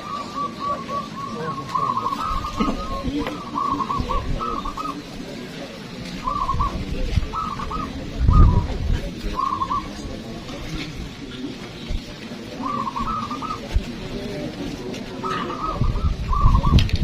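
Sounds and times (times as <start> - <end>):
doves cooing: 0.0 - 17.0.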